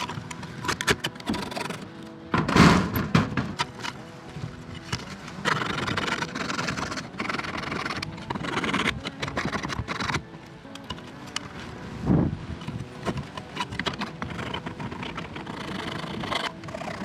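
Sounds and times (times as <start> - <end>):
hand tool scraping plastic: 0.0 - 11.8, 12.6 - 17.0.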